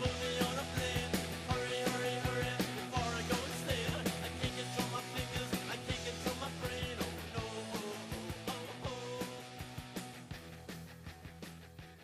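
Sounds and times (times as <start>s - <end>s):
rock and roll instrumental music: 0.0s - 12.0s.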